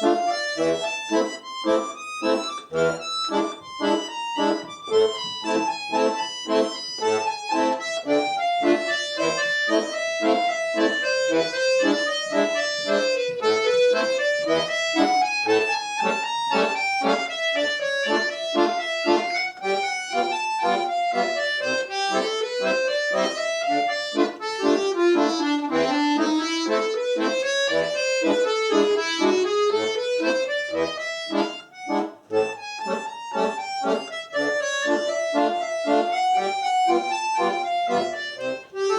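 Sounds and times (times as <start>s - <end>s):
solo accordion playing folk melody: 0.0s - 38.9s.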